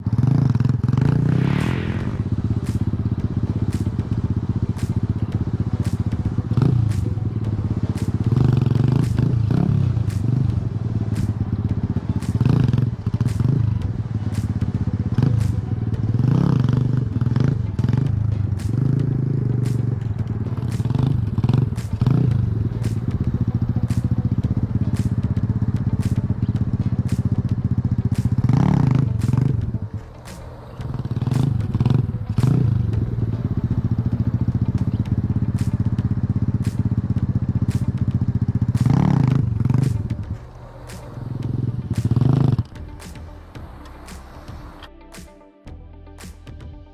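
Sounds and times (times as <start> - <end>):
pit bike engine revving: 0.0 - 44.8.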